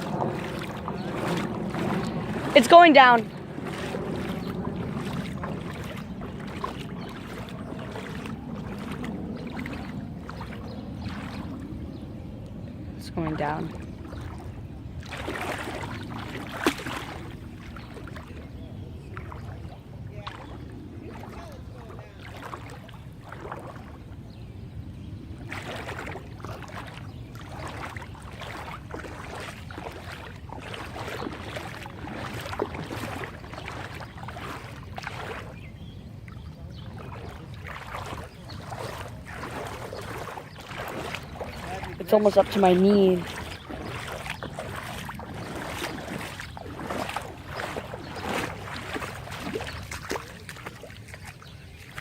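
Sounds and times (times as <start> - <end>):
low water rush: 0.0 - 52.0
wading through water splashes: 0.0 - 52.0.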